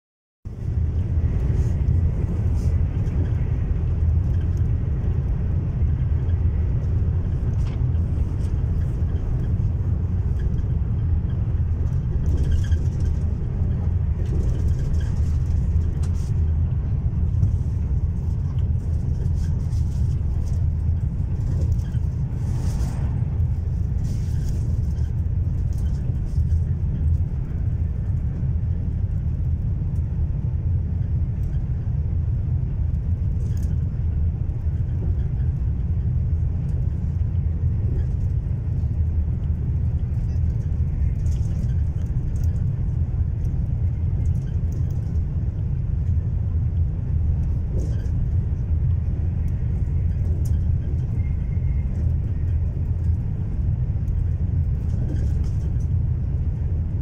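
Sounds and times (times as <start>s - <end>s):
train rumbling from inside carriage: 0.5s - 57.0s.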